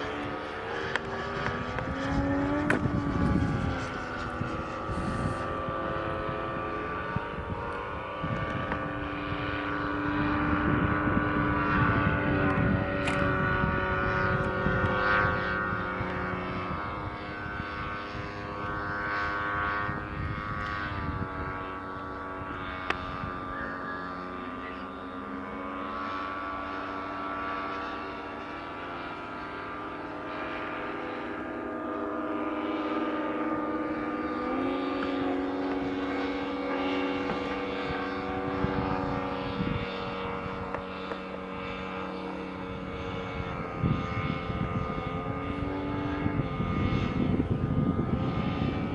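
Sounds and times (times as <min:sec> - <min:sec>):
model plane engine flying overhead: 0:00.0 - 0:48.9.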